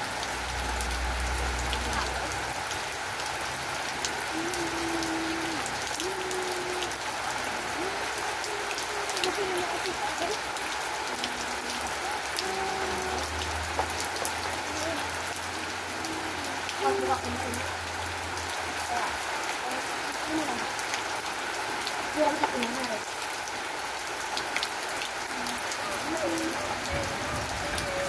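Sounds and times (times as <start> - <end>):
rain drops ticking on hard surface: 0.0 - 28.0
rain hiss: 0.0 - 28.0.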